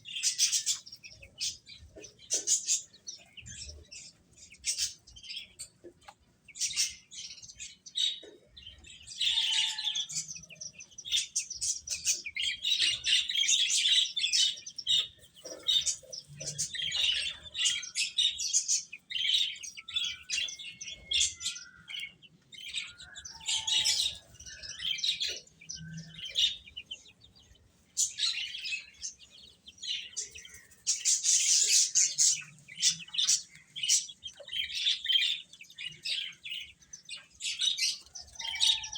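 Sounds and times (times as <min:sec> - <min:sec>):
baby chicks chirping: 0:00.0 - 0:38.9.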